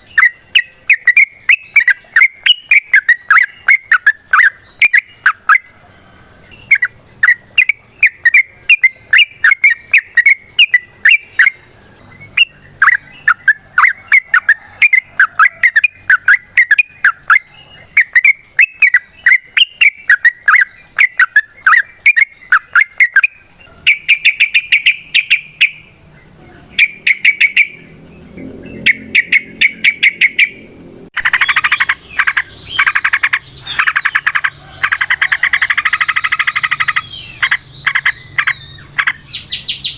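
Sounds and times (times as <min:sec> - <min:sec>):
buzzy bird trills: 0:00.0 - 0:39.9
rasping bird chatter: 0:00.0 - 0:39.9.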